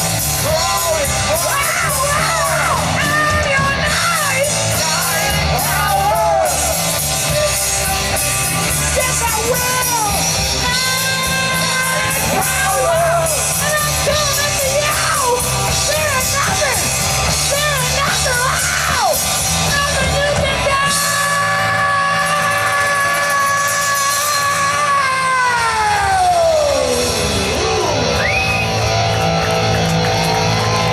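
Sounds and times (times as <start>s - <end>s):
live hard rock band: 0.0s - 30.9s
wavering lead guitar line: 0.0s - 30.9s.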